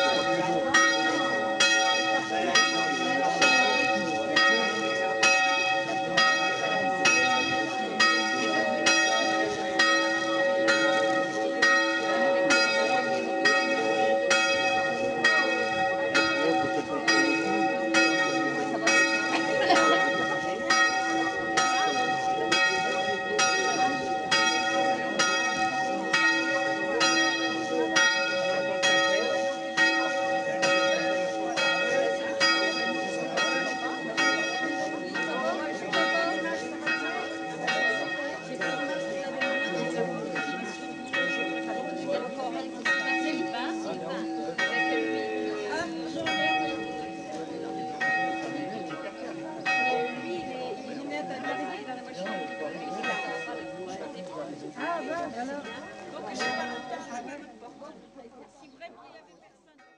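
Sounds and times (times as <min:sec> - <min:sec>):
church bell ringing: 0:00.0 - 0:58.0.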